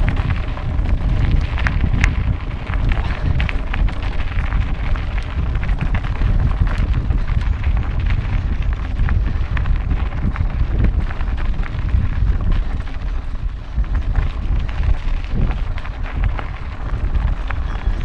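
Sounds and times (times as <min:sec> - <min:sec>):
tyres crunching on gravel: 0:00.0 - 0:18.0
wind buffeting microphone: 0:00.0 - 0:18.0.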